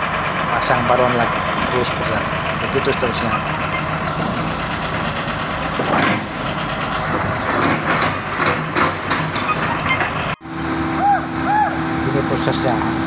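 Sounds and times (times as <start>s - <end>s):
heavy machinery diesel engines idling: 0.0s - 13.0s
uneven louder machinery noise: 0.0s - 13.0s.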